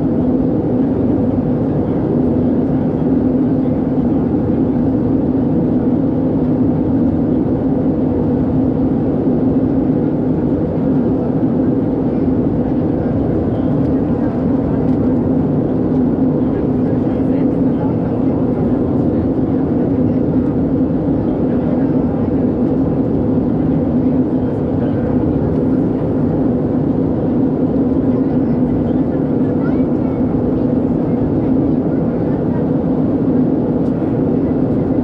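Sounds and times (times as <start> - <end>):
jet engine drone: 0.0 - 35.0.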